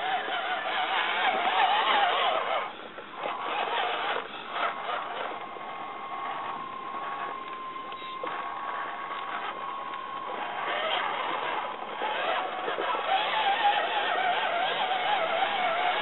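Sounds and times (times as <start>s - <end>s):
toy car electric motor whining: 0.0s - 16.0s.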